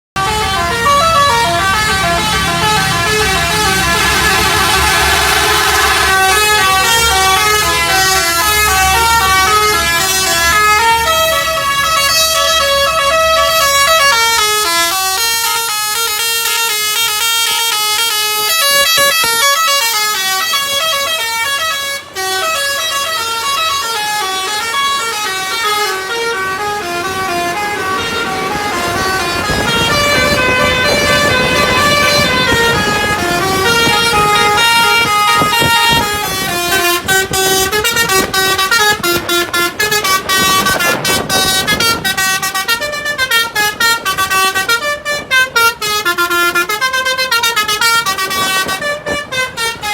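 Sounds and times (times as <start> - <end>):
musical bus horn melody: 0.2 - 49.9.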